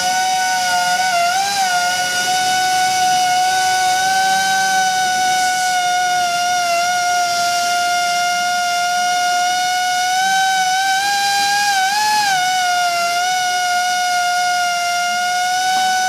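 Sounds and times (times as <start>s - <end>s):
glass grinder high whine: 0.0s - 16.0s.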